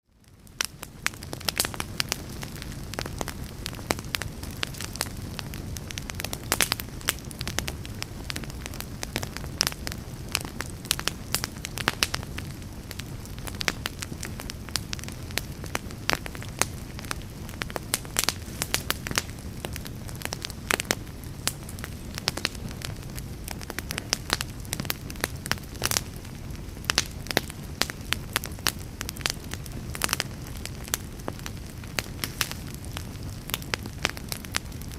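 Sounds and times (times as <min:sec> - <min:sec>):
wood fire crackling: 0:00.1 - 0:34.9.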